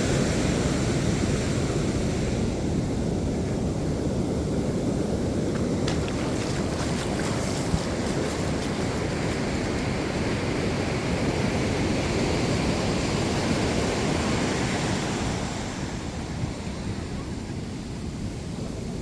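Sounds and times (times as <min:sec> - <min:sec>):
ocean surf washing on beach: 0:00.0 - 0:19.0
wind on microphone: 0:00.0 - 0:19.0.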